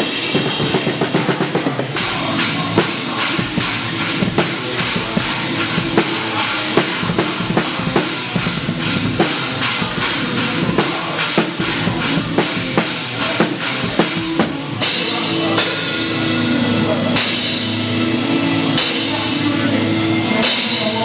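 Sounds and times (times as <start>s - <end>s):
cymbals washing: 0.0s - 21.0s
heavy band playing live: 0.0s - 21.0s.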